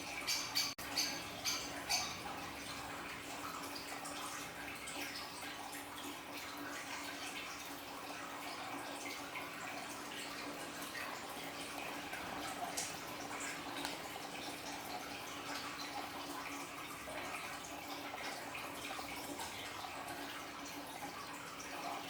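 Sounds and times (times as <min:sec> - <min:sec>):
aquarium waterfall trickling: 0:00.0 - 0:22.0.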